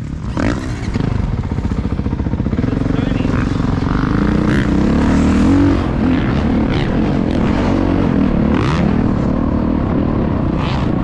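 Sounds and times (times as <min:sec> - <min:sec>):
dirt bike engine: 0:00.0 - 0:11.0.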